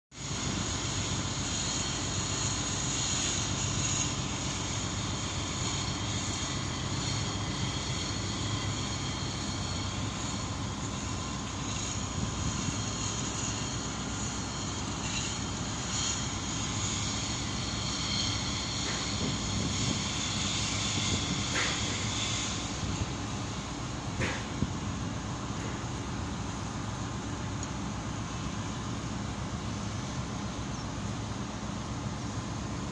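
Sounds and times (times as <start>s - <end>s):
faint high whine: 0.1s - 32.9s
ship machinery low hum: 0.1s - 32.9s.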